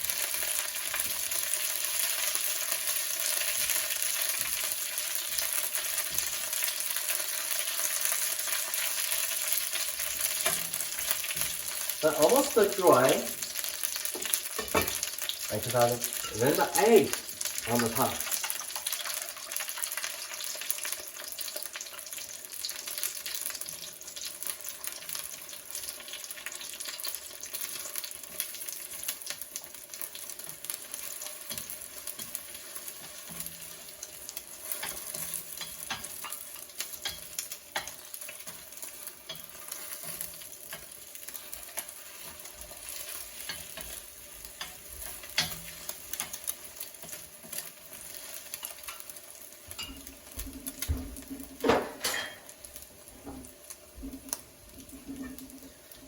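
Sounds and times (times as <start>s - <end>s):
egg frying in pan: 0.0s - 56.0s.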